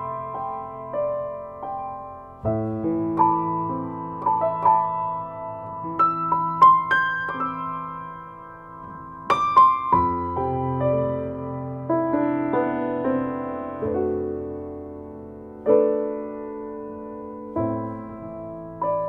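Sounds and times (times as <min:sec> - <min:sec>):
slow solo piano music: 0:00.0 - 0:19.0.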